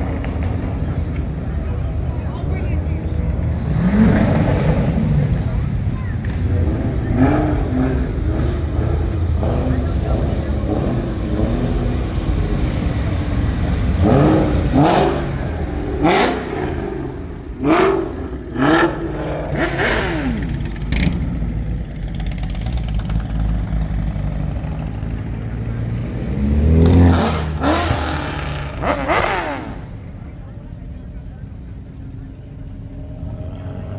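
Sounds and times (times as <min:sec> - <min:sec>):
car engine idling: 0:00.0 - 0:33.9
car engine revving: 0:00.0 - 0:33.9.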